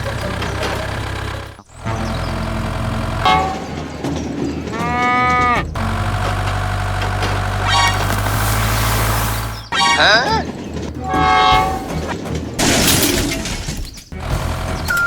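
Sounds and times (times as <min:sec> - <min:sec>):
small engine running: 0:00.0 - 0:12.8, 0:14.1 - 0:15.0.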